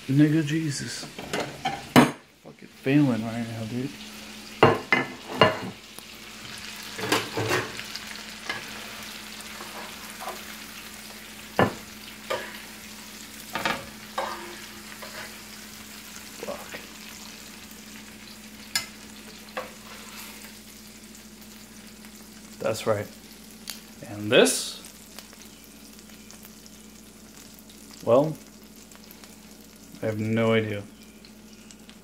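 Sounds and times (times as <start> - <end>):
butter sizzling in frying pan: 0.0 - 32.0.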